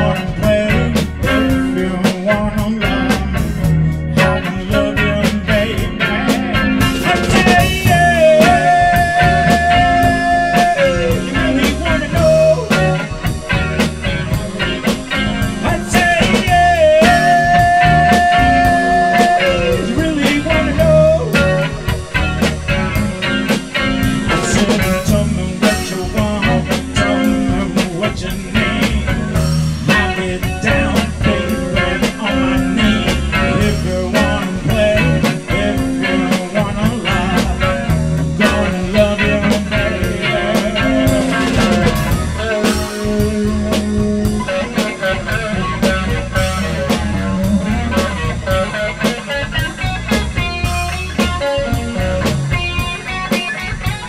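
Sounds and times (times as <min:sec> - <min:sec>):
drums: 0:00.0 - 0:54.0
electric guitar: 0:00.0 - 0:54.0.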